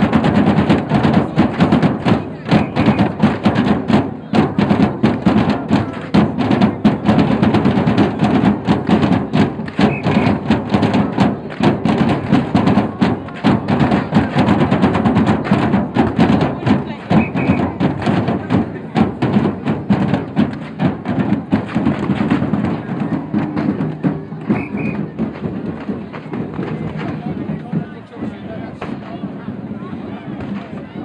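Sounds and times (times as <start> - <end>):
crowd voices: 0.0 - 31.0
drums beating fast rhythm: 0.0 - 31.0.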